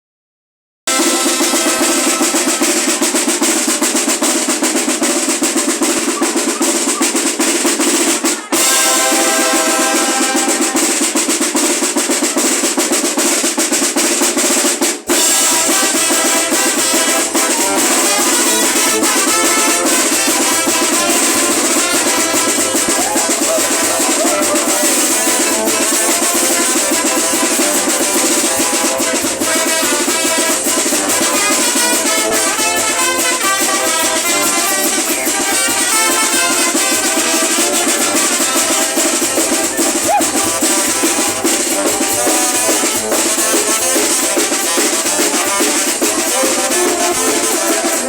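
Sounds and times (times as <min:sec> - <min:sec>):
fast snare drumming: 0:00.9 - 0:48.0
wind band playing: 0:00.9 - 0:48.0.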